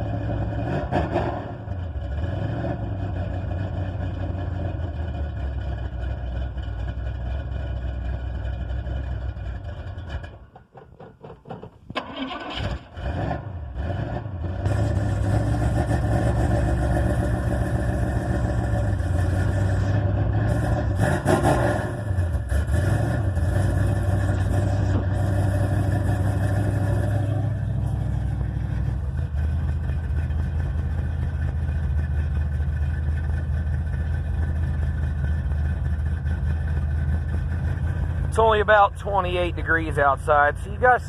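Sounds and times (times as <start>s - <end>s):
engine running and revving: 0.0s - 10.4s, 12.5s - 41.0s.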